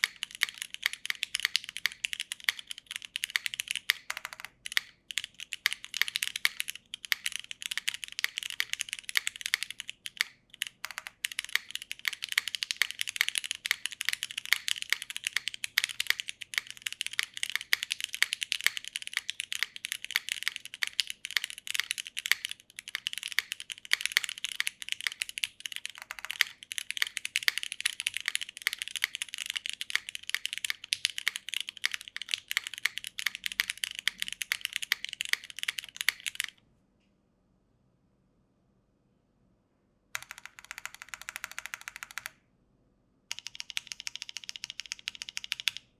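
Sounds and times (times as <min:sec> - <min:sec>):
fast mechanical keyboard typing: 0:00.0 - 0:36.6, 0:40.2 - 0:42.4, 0:43.3 - 0:45.9.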